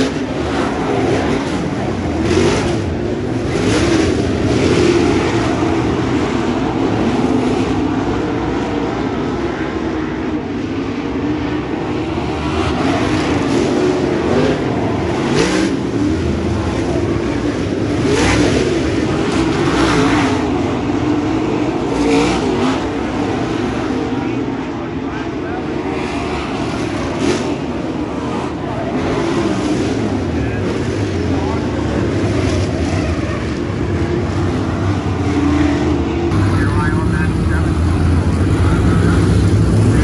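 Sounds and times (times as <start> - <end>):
race car engines: 0.0 - 40.0
race cars passing close by: 0.0 - 40.0.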